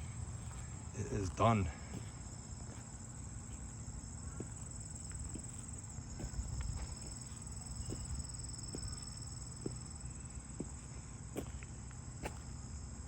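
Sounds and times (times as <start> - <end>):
crickets trilling: 0.0 - 13.0
low outdoor rumble: 0.0 - 13.0.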